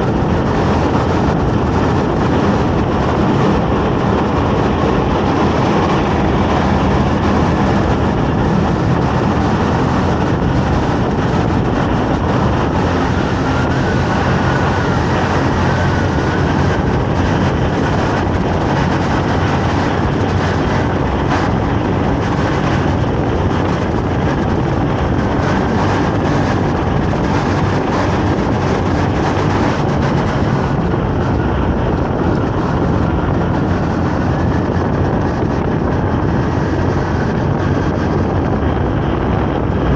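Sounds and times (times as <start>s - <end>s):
motorcycle engine running: 0.0s - 39.9s
road rumble: 0.0s - 39.9s
wind: 0.0s - 39.9s.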